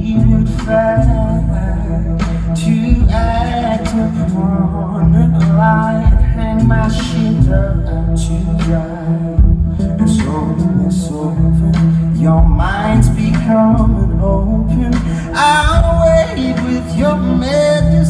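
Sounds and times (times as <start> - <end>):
man singing into microphone: 0.0 - 18.0
sustained low accompaniment: 0.0 - 18.0.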